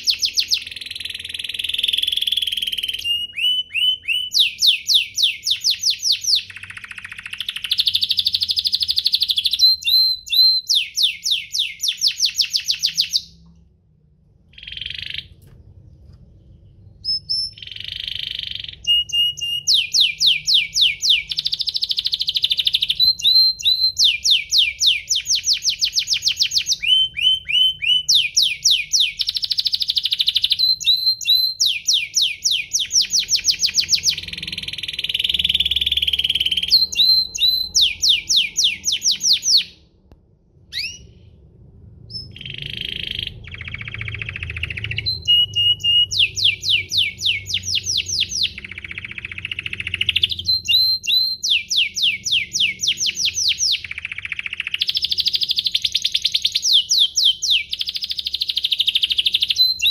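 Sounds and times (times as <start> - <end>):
canary singing trills: 0.0 - 13.5, 14.4 - 39.8, 40.7 - 41.2, 42.0 - 59.9.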